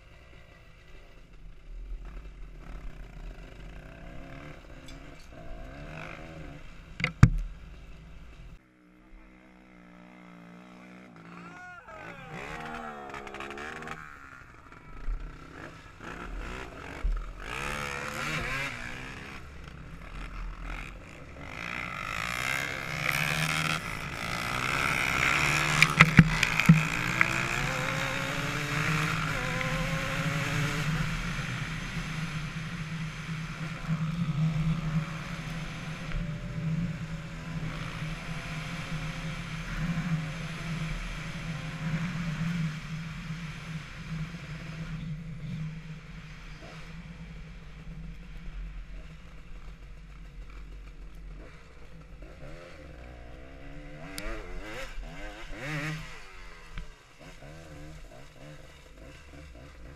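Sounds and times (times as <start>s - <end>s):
dirt bike engine accelerating: 0.0s - 59.9s.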